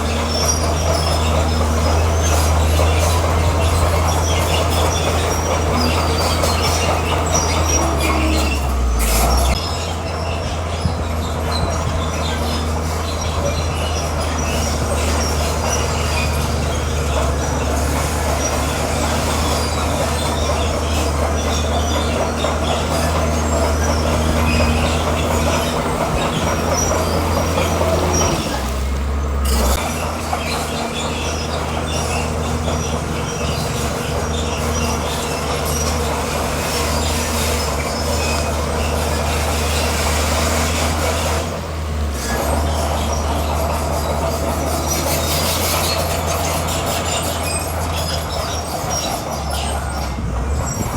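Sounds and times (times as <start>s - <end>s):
diesel engine under load: 0.0s - 50.9s
steel tracks squealing and clanking: 0.0s - 50.9s.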